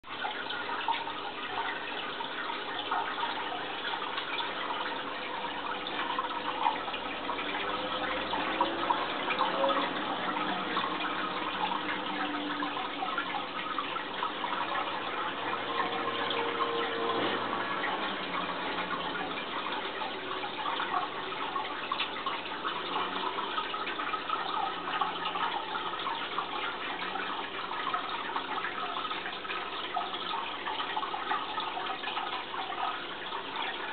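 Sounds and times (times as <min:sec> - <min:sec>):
aquarium water bubbling: 0:00.0 - 0:33.9.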